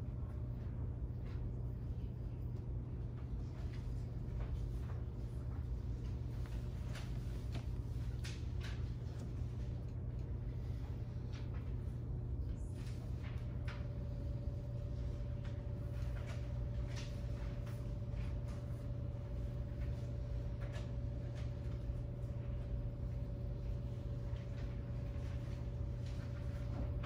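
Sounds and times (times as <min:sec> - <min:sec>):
faint clicks and rustles: 0:00.3 - 0:27.0.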